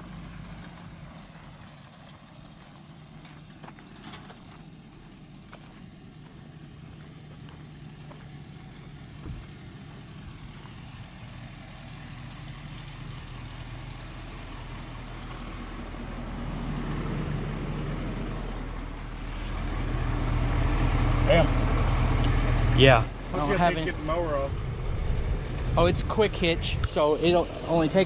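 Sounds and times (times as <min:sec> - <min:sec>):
truck engine approaching: 0:00.0 - 0:28.0.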